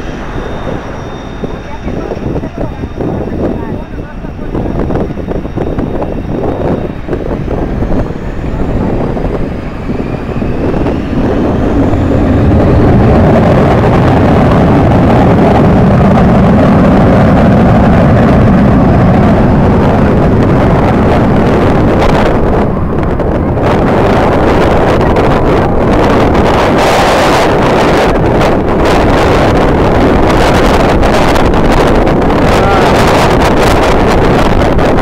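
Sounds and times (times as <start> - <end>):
jet engines roaring: 0.0 - 35.0
wind buffeting microphone: 0.0 - 35.0.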